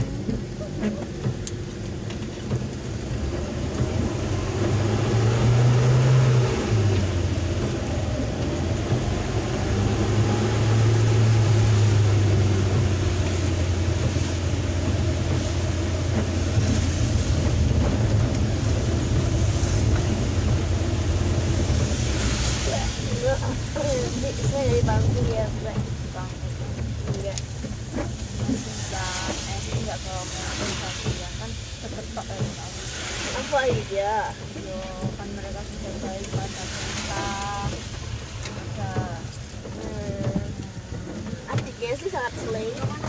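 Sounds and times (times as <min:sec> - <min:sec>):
engine heard inside cab: 0:00.0 - 0:43.0.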